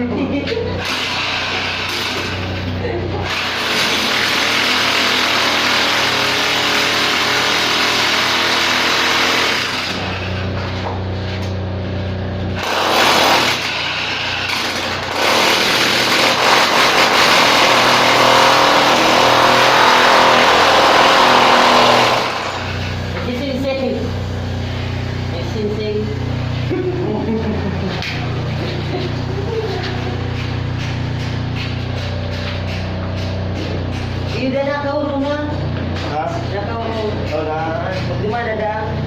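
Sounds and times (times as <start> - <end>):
loud power tool running: 0.6 - 39.0.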